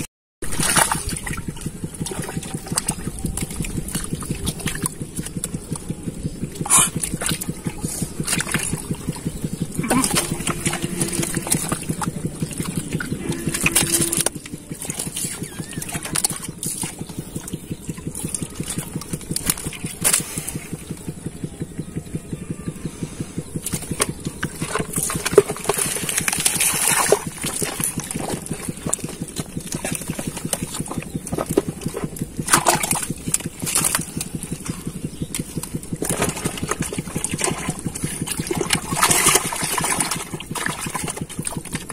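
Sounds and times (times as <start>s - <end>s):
rapid throbbing: 0.0s - 41.9s
water sloshing and splashing: 0.0s - 41.9s
hands squelching through wet mud: 0.4s - 41.9s.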